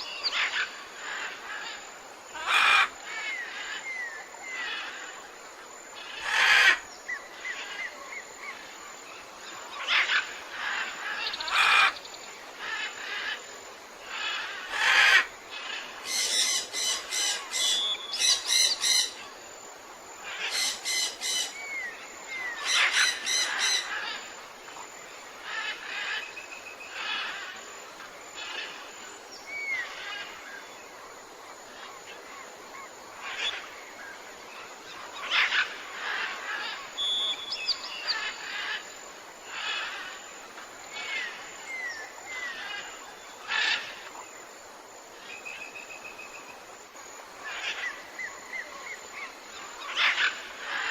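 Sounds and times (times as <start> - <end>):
forest birds calling: 0.0 - 50.9.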